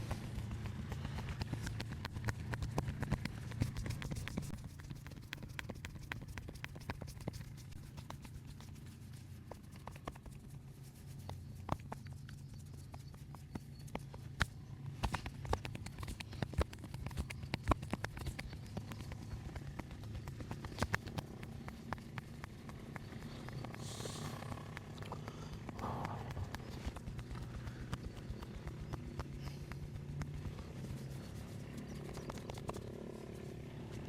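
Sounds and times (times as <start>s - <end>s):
hands tapping and patting: 0.0s - 33.1s
steady low hum: 0.0s - 34.0s.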